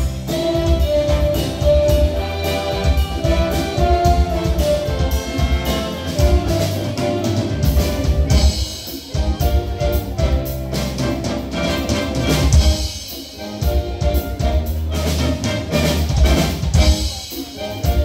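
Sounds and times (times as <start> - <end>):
brass band playing: 0.0 - 18.0
drum kit beat: 0.0 - 18.0.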